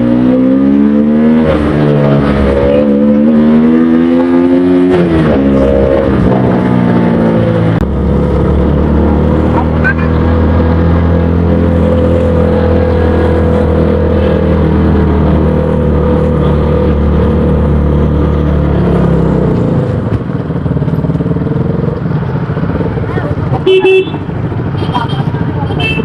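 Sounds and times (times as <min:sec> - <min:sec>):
motorcycle engine running: 0:04.2 - 0:26.0.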